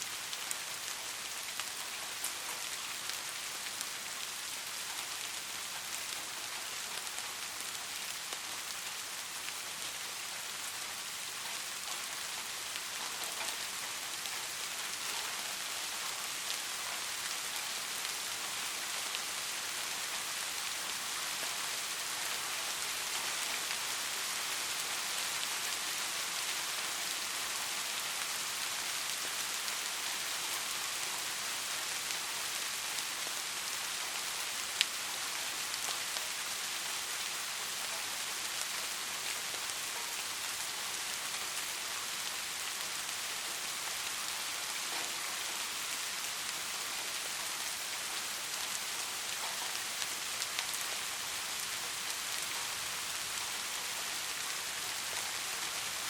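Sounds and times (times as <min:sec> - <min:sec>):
rainfall pattering: 0:00.0 - 0:56.0.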